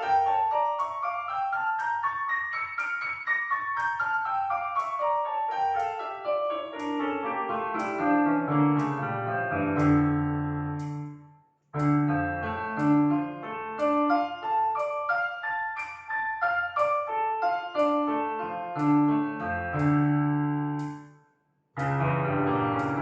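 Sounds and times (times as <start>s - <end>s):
piano music: 0.0s - 21.0s, 21.8s - 23.0s.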